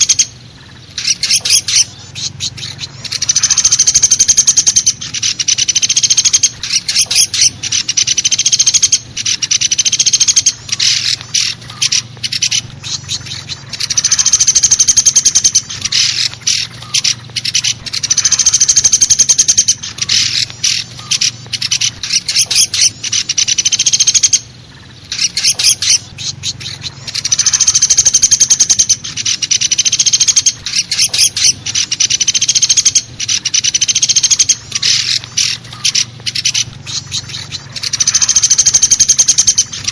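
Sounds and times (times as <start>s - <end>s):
woodpecker rattling trills: 0.0s - 39.9s.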